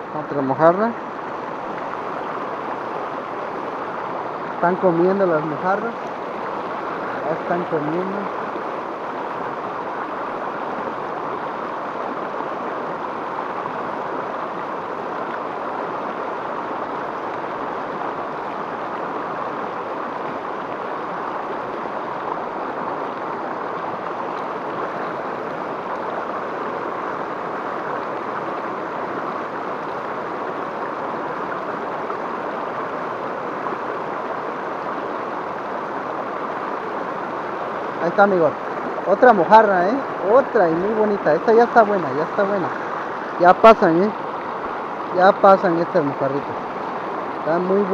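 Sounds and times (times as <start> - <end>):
river water rushing over rocks: 0.0 - 47.9.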